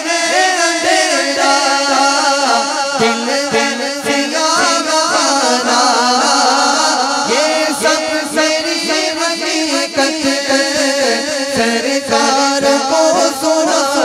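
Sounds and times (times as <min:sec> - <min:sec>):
men singing into microphones: 0:00.0 - 0:14.0.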